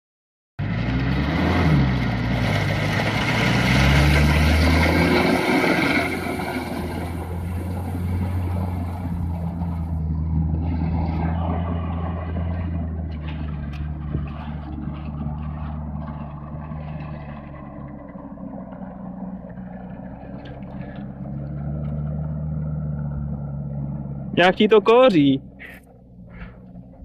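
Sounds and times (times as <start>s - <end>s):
car engine running under load: 0.6s - 27.0s.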